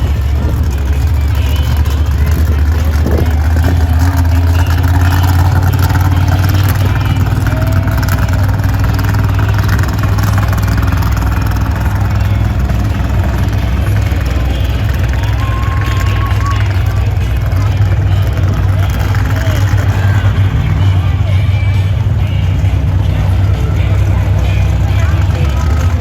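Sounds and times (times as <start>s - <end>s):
monster truck engine running: 0.0s - 26.0s.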